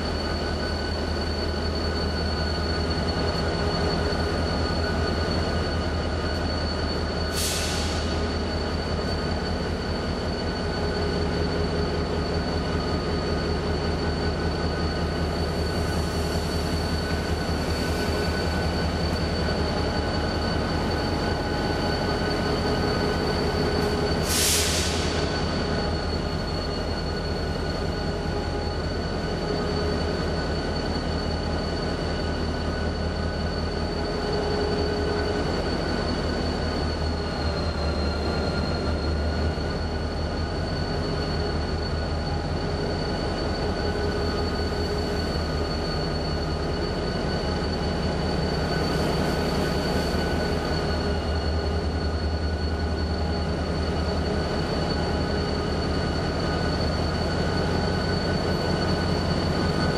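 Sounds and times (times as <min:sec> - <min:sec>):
thin high whine: 0:00.0 - 0:59.9.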